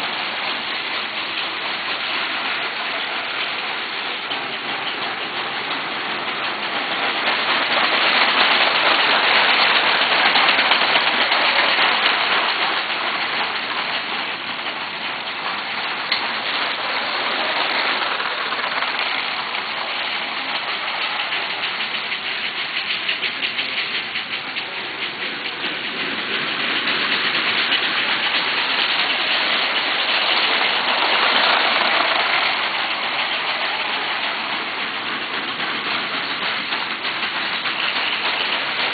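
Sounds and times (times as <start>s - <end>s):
toy trains whirring on track: 0.0s - 38.9s.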